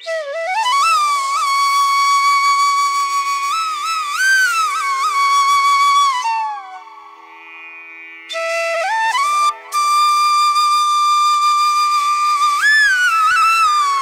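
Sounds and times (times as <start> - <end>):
flute long held note: 0.0 - 7.6, 8.3 - 14.0.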